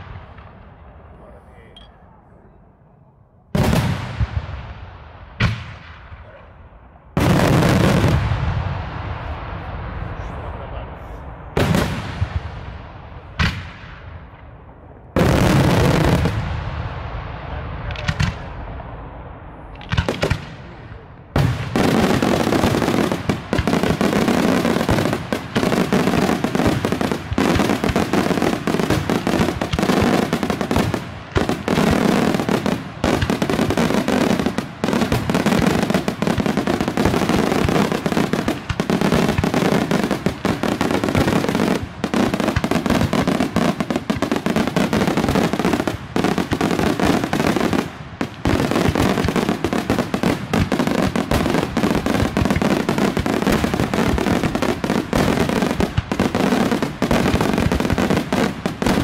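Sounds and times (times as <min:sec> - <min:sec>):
fireworks bangs and crackling: 0:00.0 - 0:01.8, 0:03.5 - 0:59.0.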